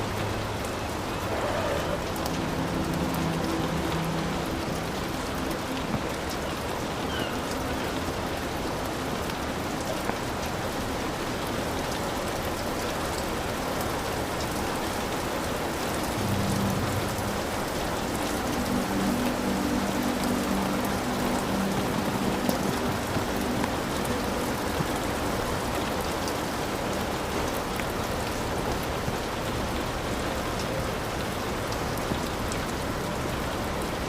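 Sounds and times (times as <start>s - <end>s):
heavy rain on a roof: 0.0s - 34.0s.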